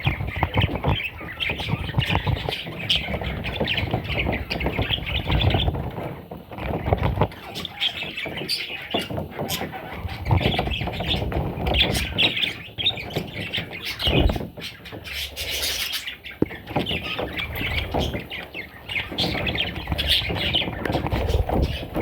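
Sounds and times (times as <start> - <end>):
budgerigars chirping and squawking: 0.0 - 22.0.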